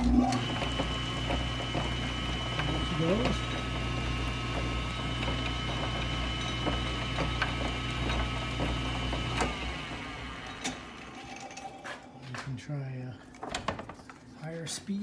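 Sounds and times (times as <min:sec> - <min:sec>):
lathe motor humming: 0:00.0 - 0:12.2.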